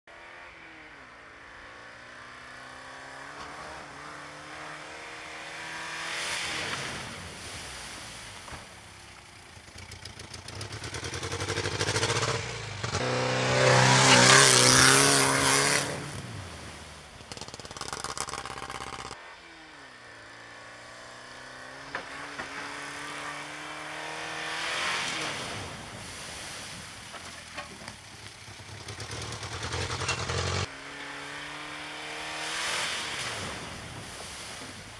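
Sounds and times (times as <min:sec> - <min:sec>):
car engine revving: 0:00.1 - 0:07.1, 0:09.6 - 0:25.8, 0:28.6 - 0:33.6.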